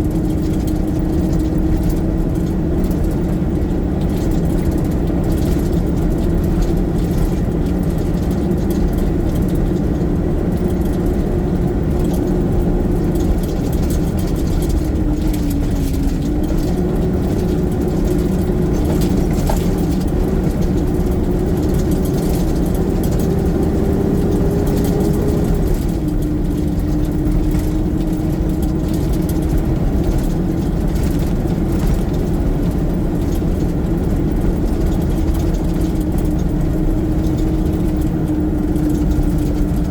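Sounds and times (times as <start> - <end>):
garbage truck engine running: 0.0 - 39.9.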